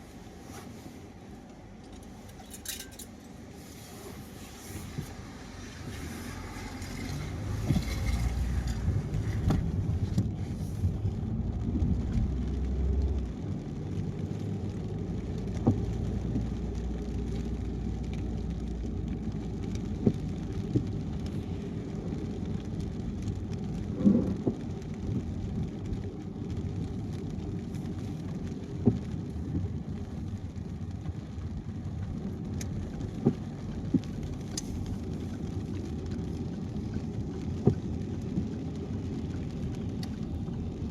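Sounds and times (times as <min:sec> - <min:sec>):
car tyres on wet road: 0:00.0 - 0:40.9.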